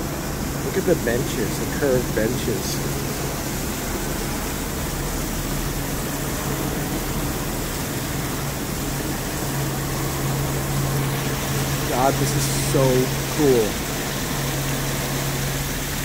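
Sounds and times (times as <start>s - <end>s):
constant low hum: 0.0s - 16.0s
even hiss: 0.0s - 16.0s.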